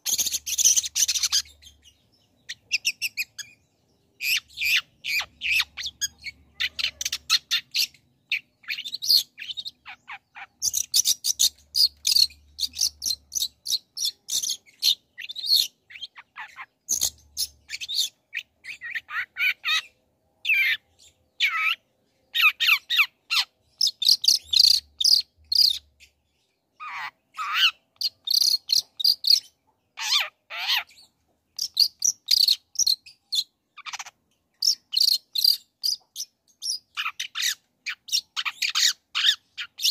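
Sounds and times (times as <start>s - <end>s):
shrike singing chirps and chatter: 0.0s - 39.9s.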